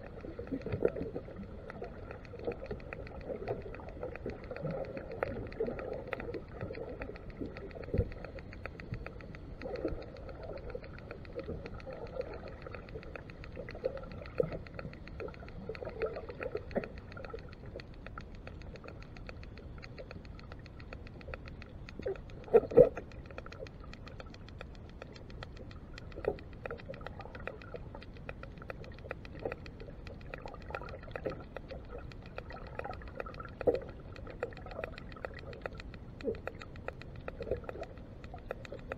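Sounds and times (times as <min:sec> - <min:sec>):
underwater crackle of tiny clicks: 0:00.0 - 0:38.9.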